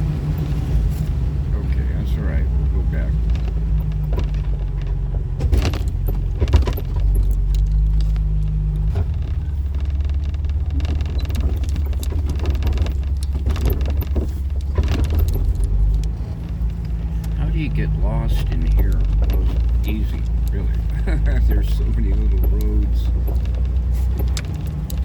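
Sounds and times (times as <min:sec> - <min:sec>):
car engine and road noise: 0:00.0 - 0:25.0
rattles and jangles: 0:03.0 - 0:25.0.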